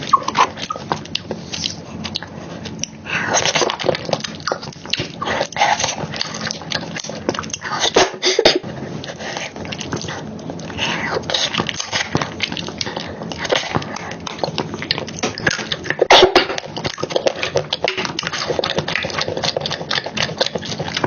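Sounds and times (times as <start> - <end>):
chewing and mouth smacking: 0.0 - 21.0.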